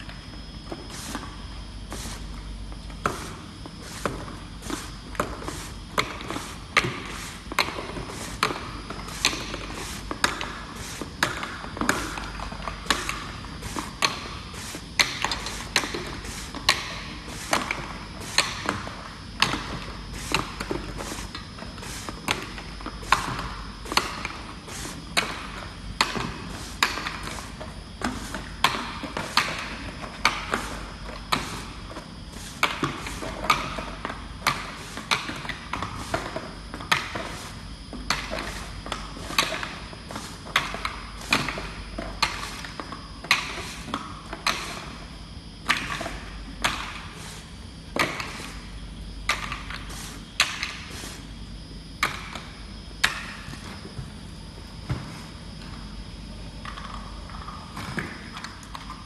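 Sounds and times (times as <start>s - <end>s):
labelling machine whine and hum: 0.0s - 59.0s.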